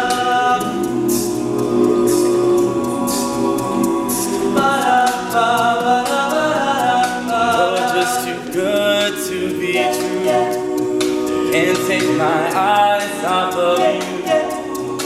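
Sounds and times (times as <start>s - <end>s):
men's vocal group singing: 0.0s - 15.0s
vocal percussion ticking: 0.0s - 15.0s.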